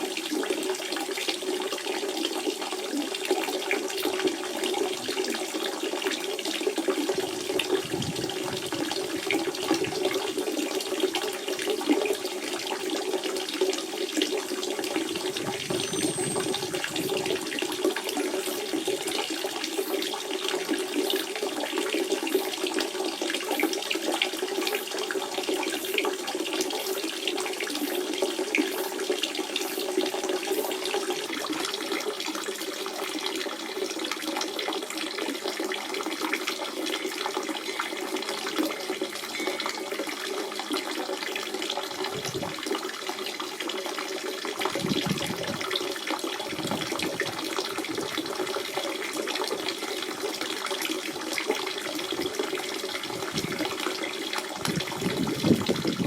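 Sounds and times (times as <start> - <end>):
spring water running: 3.7 - 33.2, 33.9 - 56.0.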